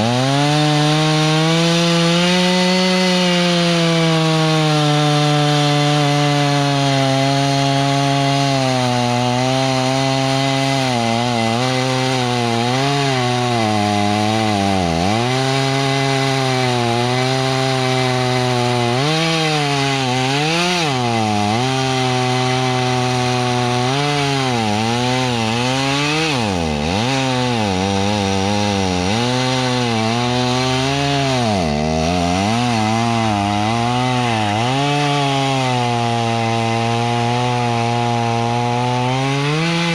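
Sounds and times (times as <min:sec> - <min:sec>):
stump grinder grinding: 0:00.0 - 0:39.9.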